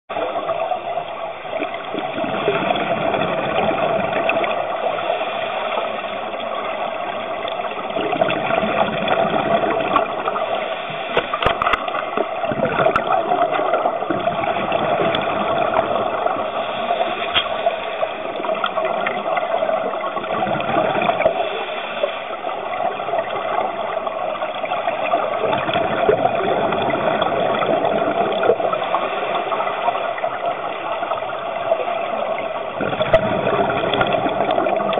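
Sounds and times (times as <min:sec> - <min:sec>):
muffled underwater rushing: 0:00.1 - 0:34.9.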